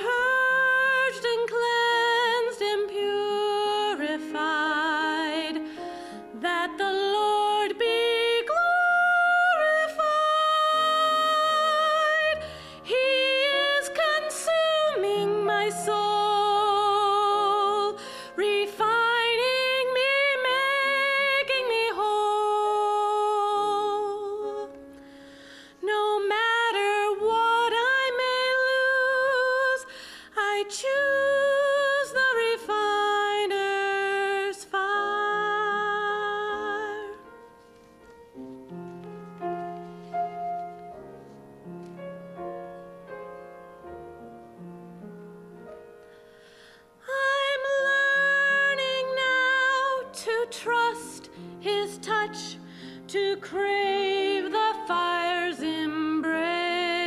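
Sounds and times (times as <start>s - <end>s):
woman singing a hymn: 0.0s - 24.8s, 25.8s - 37.4s, 47.0s - 57.0s.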